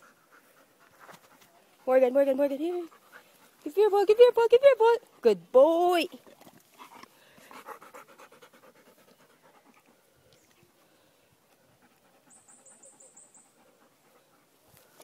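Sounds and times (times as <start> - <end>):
dog panting rapidly: 0.0 - 5.4, 6.7 - 10.2, 11.4 - 15.0.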